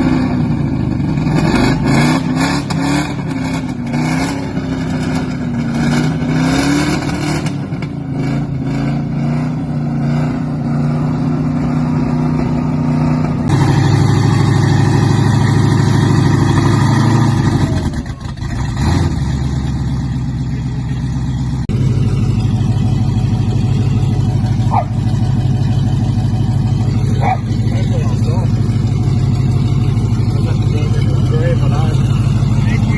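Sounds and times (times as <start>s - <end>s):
truck engine revving hard: 0.0s - 20.0s, 21.5s - 32.9s.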